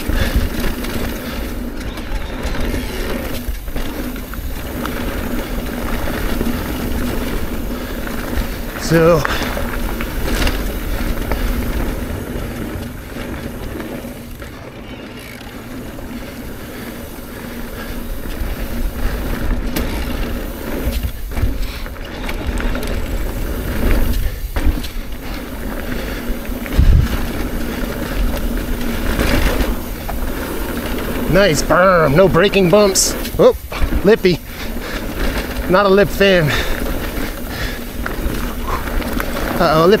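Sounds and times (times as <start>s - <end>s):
bike rattling: 0.0s - 40.0s
tyre and wind rush: 0.0s - 40.0s.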